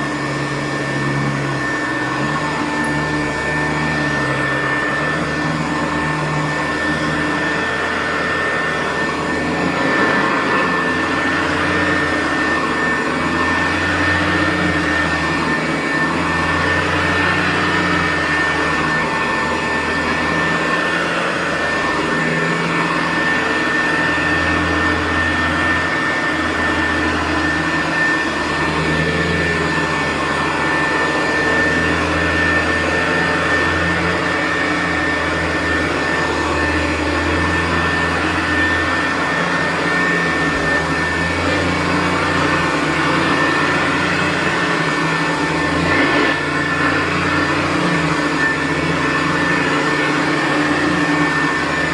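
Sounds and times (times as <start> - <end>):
vacuum cleaner motor whine: 0.0 - 51.9.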